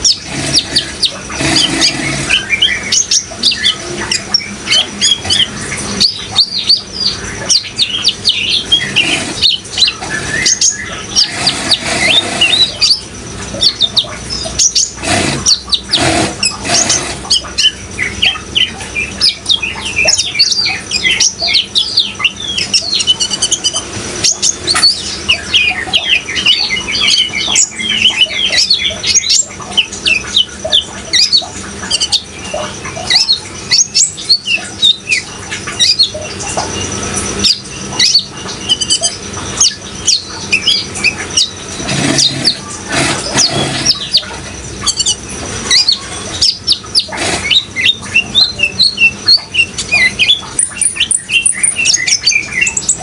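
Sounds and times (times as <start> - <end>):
running water: 0.0 - 53.0
sunbird singing: 0.0 - 53.0.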